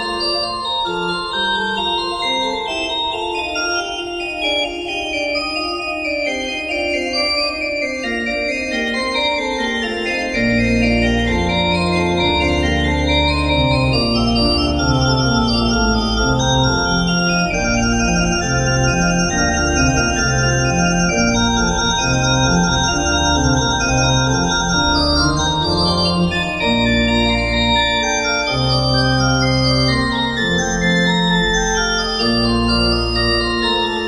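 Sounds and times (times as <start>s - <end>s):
organ music: 0.0s - 34.0s.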